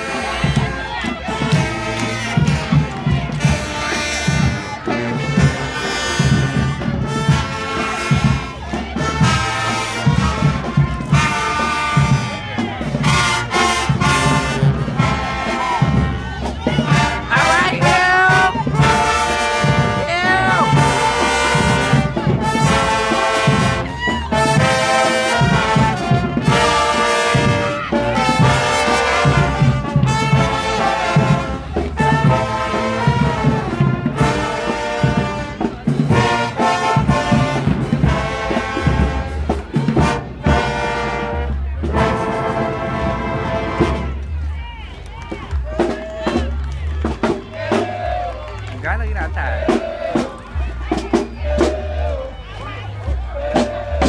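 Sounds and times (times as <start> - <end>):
steady drum beat: 0.0 - 43.1, 45.2 - 52.3, 52.9 - 54.0
trumpets and trombones: 0.0 - 44.5, 45.7 - 54.0
marching band playing: 0.0 - 54.0.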